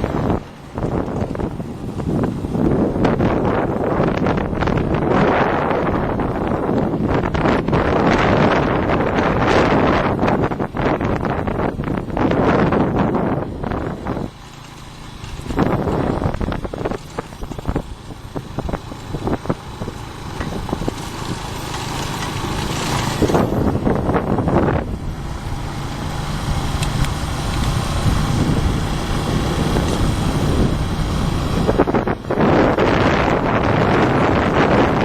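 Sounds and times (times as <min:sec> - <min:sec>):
motorbike engine running: 0:00.0 - 0:35.0
road and wind noise: 0:00.0 - 0:35.0
wind buffeting microphone: 0:00.0 - 0:35.0.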